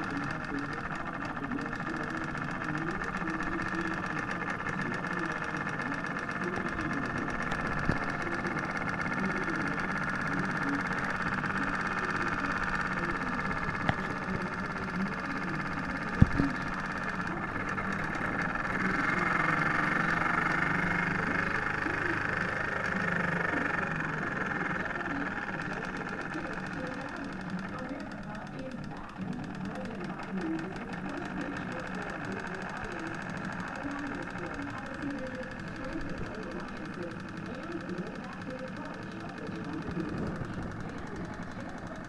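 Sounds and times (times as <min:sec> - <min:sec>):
sharp clicks: 0:00.0 - 0:42.0
steam engine chuffing: 0:00.0 - 0:42.0.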